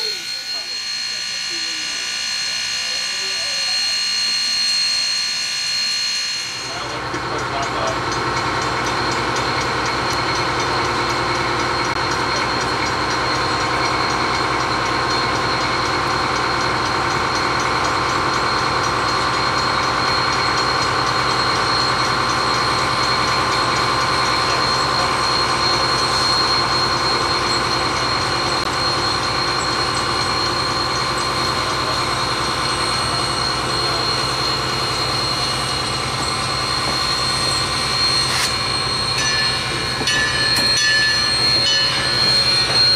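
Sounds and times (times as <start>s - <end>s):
steam locomotive rumble and hiss: 0.0s - 5.0s, 6.6s - 42.9s.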